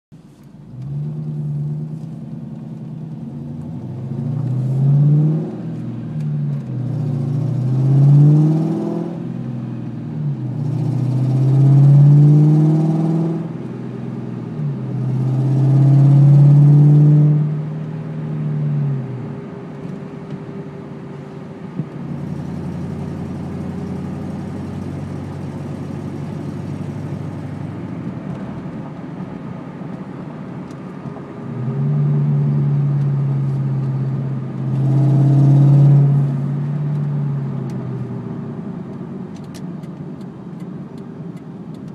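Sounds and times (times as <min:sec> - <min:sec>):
car engine revving and idling: 0:00.2 - 0:41.9.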